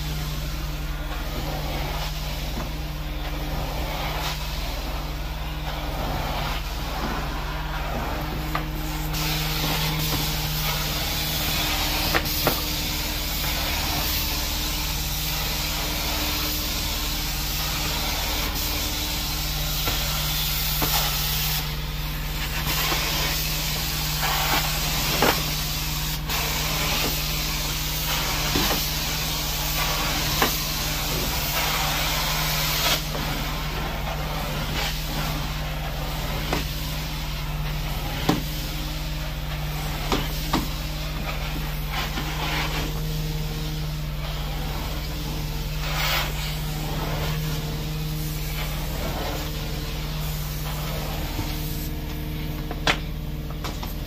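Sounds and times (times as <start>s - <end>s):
spray and suction hiss: 0.0s - 52.5s
carpet cleaning machine motor hum: 0.0s - 54.0s.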